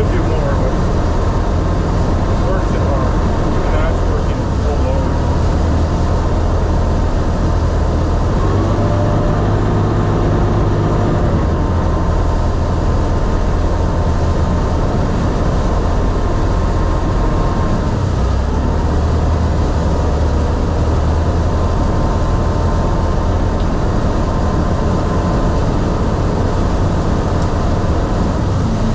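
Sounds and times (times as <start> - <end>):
diesel engine droning: 0.0 - 28.9.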